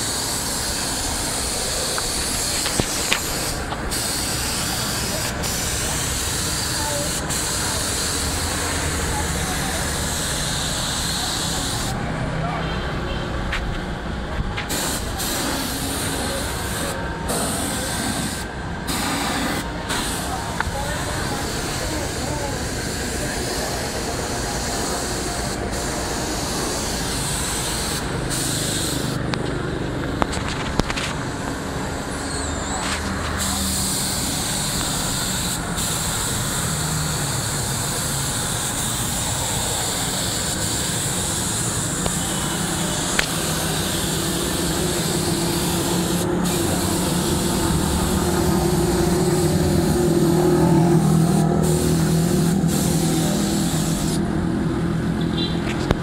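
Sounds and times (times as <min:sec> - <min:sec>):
spray gun hissing: 0:00.0 - 0:12.0, 0:14.6 - 0:29.3, 0:33.0 - 0:54.2.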